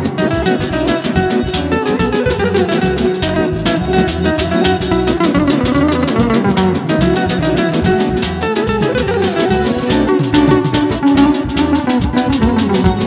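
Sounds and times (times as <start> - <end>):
plucked string melody: 0.0 - 13.0
steady drumbeat: 0.0 - 13.0.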